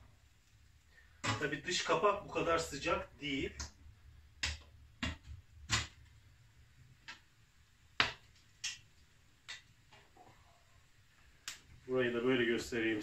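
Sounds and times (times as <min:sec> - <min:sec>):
wood fire crackling and popping: 0:00.0 - 0:11.9.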